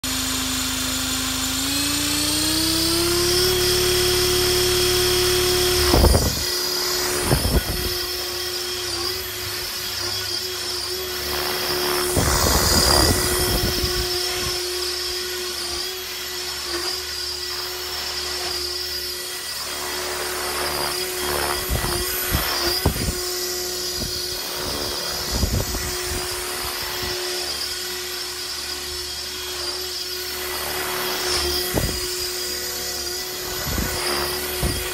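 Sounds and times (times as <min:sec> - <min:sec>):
electric rc helicopter whine: 0:00.0 - 0:34.9.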